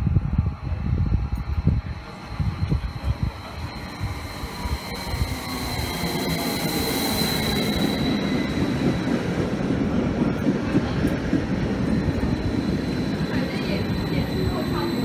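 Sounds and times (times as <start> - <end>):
wheels rumbling on rail: 0.0 - 15.0
train whine with hiss: 0.4 - 15.0.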